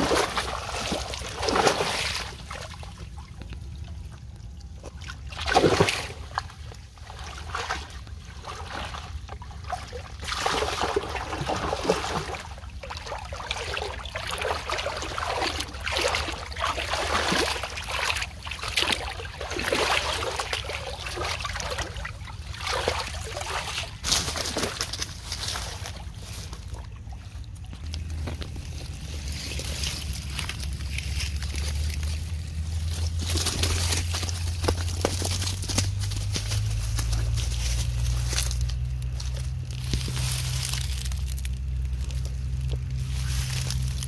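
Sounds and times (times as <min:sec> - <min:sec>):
water pouring from net: 0:00.0 - 0:04.0, 0:04.9 - 0:44.0
fish splashing in water: 0:00.0 - 0:44.0.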